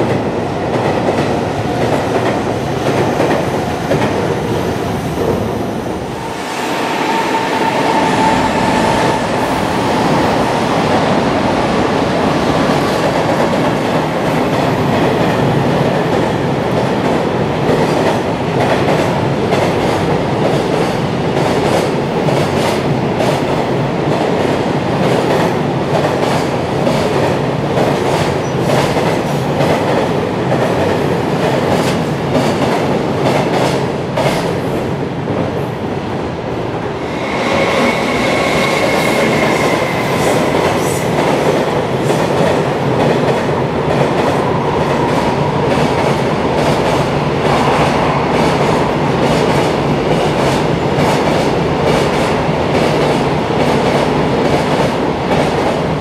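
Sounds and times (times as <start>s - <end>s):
train wheels clattering on rails: 7.2s - 34.8s, 37.0s - 56.0s.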